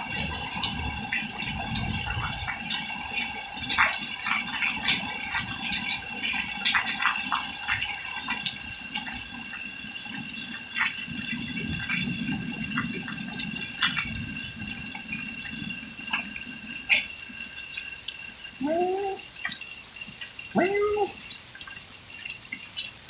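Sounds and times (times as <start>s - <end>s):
running and splashing water: 0.0s - 23.0s.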